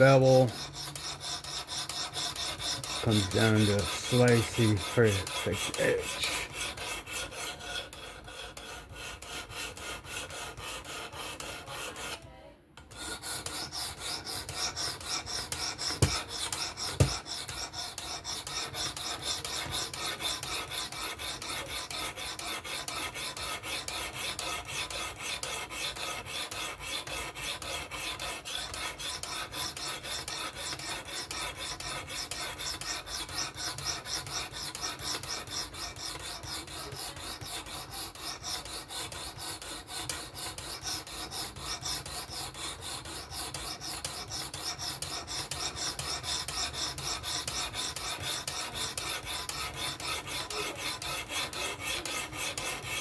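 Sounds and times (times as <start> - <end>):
sharpening stone rasping on knife: 0.0 - 12.2, 12.9 - 53.0.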